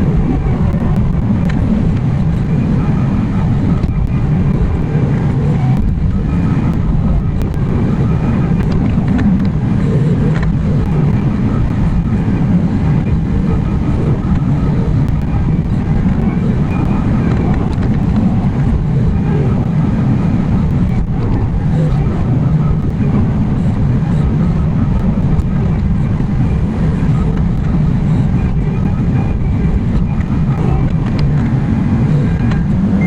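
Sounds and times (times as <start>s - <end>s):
diesel engine rumbling: 0.0s - 33.0s
faint clicks: 0.0s - 33.0s.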